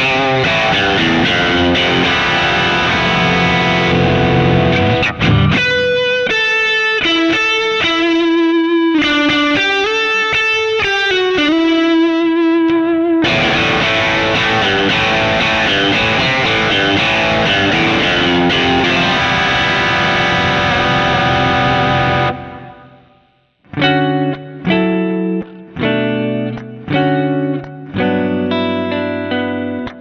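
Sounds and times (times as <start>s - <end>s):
electric guitar run of notes: 0.0s - 30.0s
guitar strumming chords: 0.0s - 30.0s.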